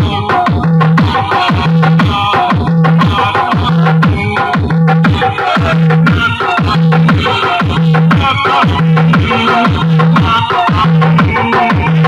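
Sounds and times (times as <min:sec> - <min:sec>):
loud electronic dance music: 0:00.0 - 0:12.0.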